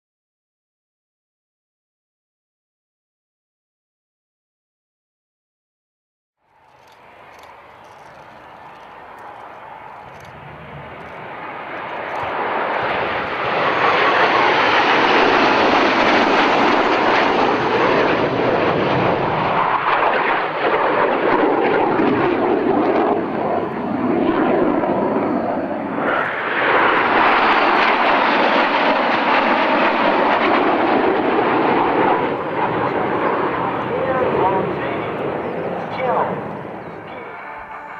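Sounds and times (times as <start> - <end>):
aircraft flying past: 6.5 - 37.9.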